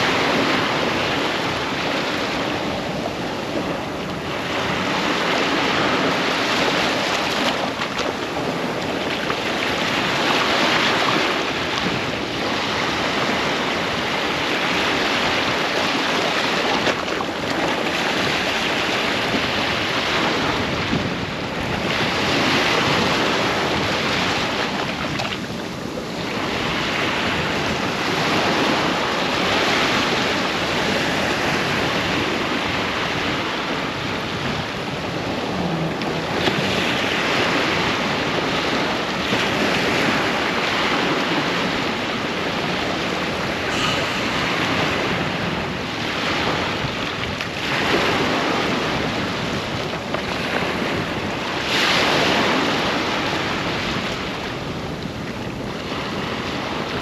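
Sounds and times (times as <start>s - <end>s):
ocean waves breaking on beach: 0.0s - 57.0s
wind on microphone: 0.0s - 57.0s.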